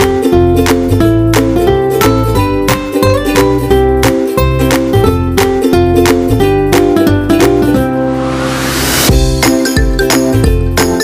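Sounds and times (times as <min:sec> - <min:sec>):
plucked strings over a beat: 0:00.0 - 0:08.2, 0:09.1 - 0:11.0.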